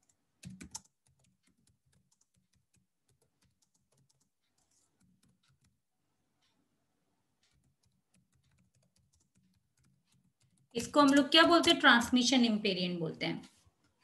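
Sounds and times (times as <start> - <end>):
faint typing on keyboard: 0.0 - 14.0.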